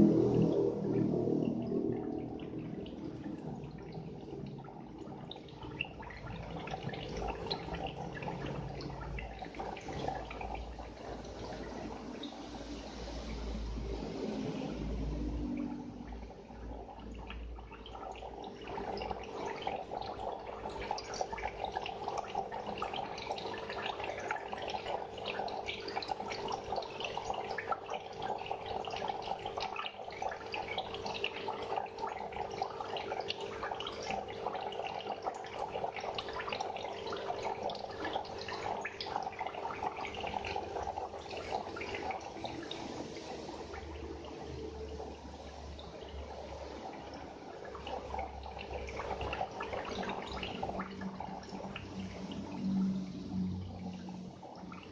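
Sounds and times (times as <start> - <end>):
aquarium water bubbling: 0.0 - 54.9.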